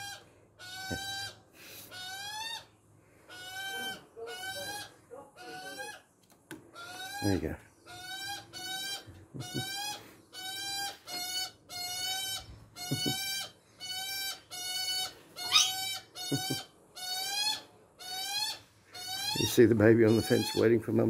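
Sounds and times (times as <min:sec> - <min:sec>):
young magpie begging calls: 0:00.0 - 0:02.7, 0:03.3 - 0:06.0, 0:06.7 - 0:20.8.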